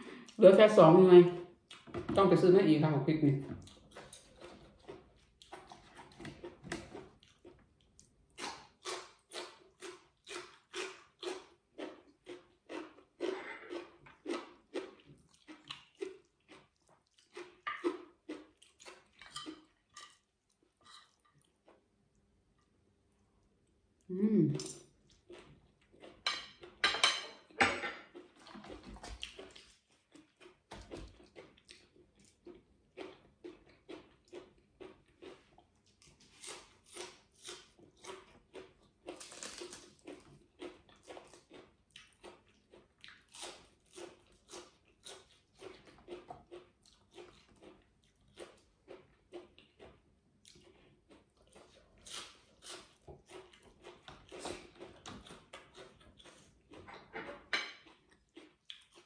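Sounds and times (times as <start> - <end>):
moist chewing: 3.4 - 21.9, 24.5 - 26.8, 28.1 - 59.0.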